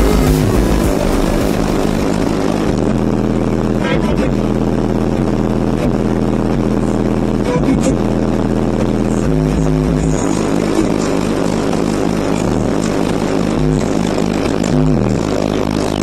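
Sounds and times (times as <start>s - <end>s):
deep bass from car subwoofers: 0.0s - 16.0s.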